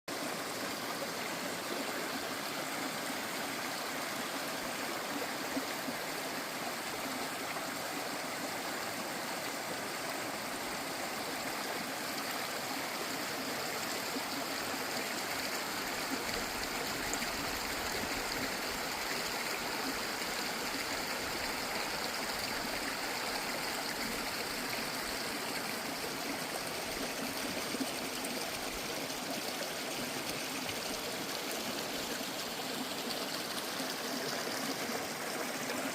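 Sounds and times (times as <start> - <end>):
stream rushing over stones: 0.1 - 35.9.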